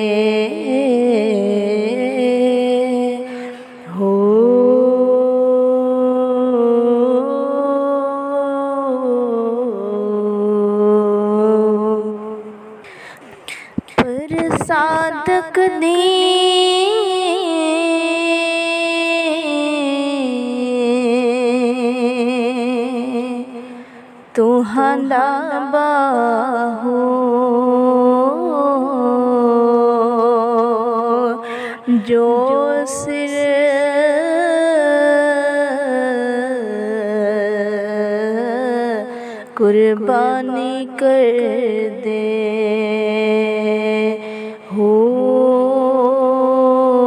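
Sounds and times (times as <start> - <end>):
woman singing: 0.0 - 12.8, 13.5 - 47.0.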